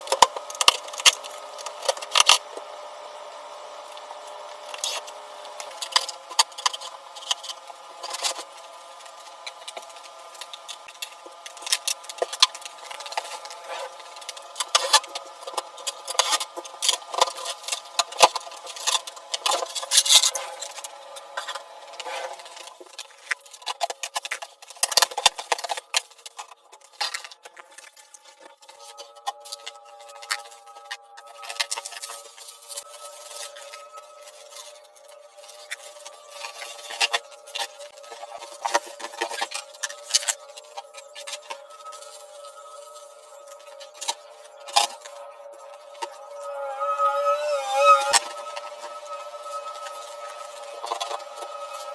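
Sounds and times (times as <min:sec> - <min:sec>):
steady droning hum: 0:00.0 - 0:51.9.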